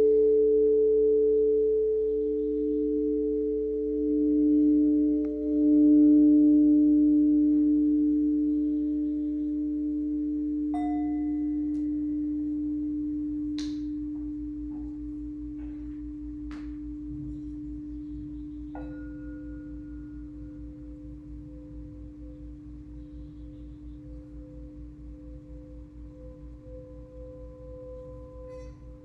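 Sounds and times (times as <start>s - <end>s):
higher struck bowl tones: 0.0s - 29.0s
singing bowl ringing: 0.0s - 29.0s.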